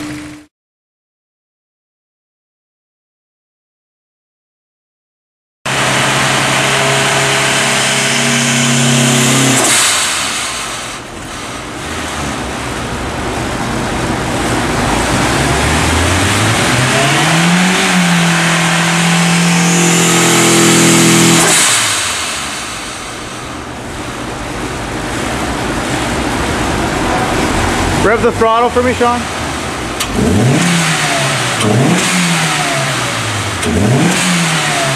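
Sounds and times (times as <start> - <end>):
turbocharged engine revving: 5.7 - 34.9.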